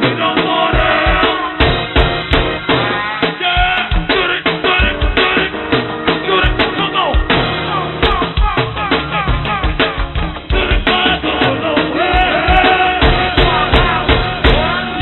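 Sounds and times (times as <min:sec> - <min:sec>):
band playing live: 0:00.0 - 0:15.0
drum kit beat: 0:00.0 - 0:15.0.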